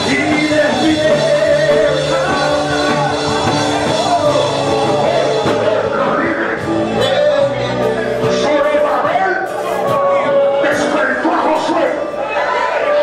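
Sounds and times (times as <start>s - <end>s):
church worship band: 0.0s - 13.0s
voices singing: 0.0s - 13.0s.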